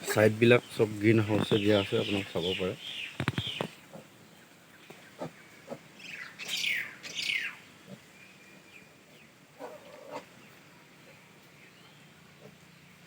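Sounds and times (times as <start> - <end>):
farm animals calling: 0.0 - 12.9.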